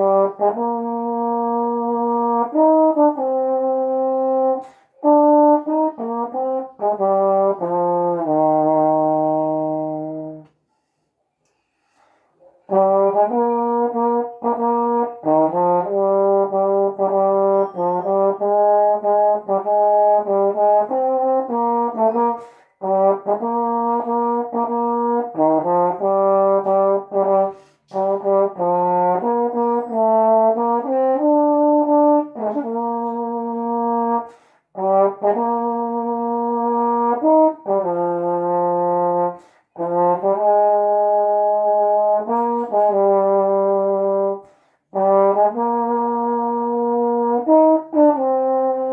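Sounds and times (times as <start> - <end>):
solo trombone playing a hymn: 0.0 - 10.5, 12.6 - 48.9.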